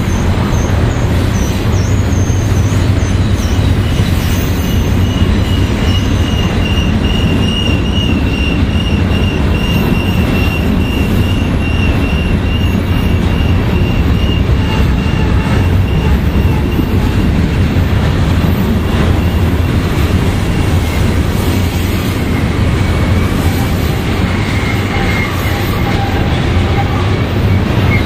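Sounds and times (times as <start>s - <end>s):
high wavering wheel squeal: 0.0s - 17.7s, 19.1s - 28.0s
freight train wheels rumbling: 0.0s - 28.0s.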